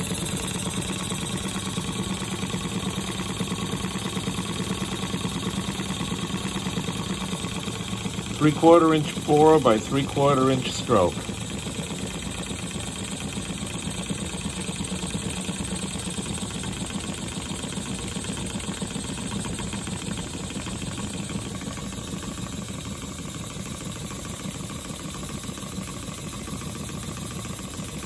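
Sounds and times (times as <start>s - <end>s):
model steam engine exhaust puffs: 0.0s - 28.0s.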